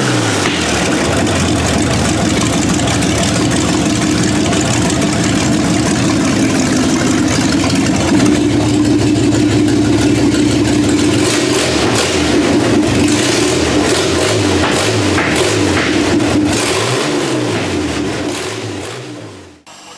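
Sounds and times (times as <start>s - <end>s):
loud engine running: 0.0s - 19.9s.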